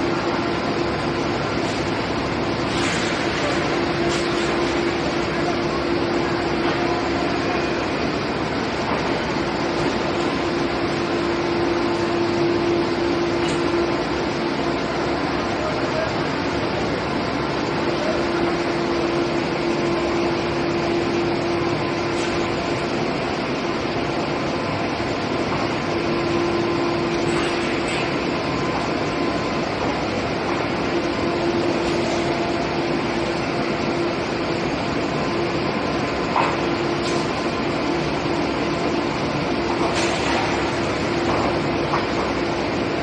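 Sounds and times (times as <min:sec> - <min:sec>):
machinery drone: 0:00.0 - 0:43.0.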